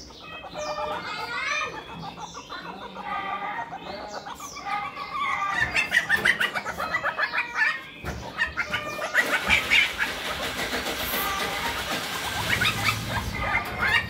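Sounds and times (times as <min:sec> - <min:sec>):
chattering clucking animal calls: 0:00.0 - 0:14.0.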